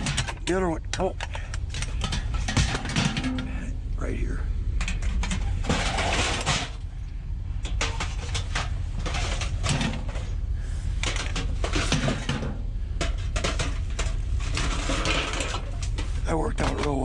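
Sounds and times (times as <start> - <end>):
scrap items knocking and scraping: 0.0 - 0.5, 1.2 - 3.6, 4.8 - 6.9, 7.6 - 17.0
steady low rumble: 0.0 - 17.0.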